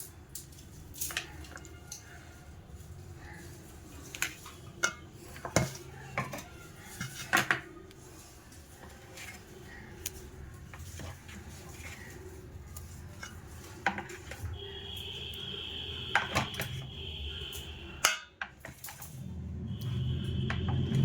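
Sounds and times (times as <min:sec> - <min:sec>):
utensils clinking against dishes: 0:00.0 - 0:15.1, 0:16.1 - 0:16.8, 0:17.5 - 0:19.2.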